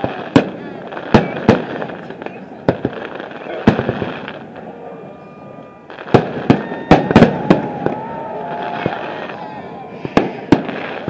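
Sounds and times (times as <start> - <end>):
fireworks booming: 0.0 - 11.0
fireworks crackle: 0.0 - 11.0.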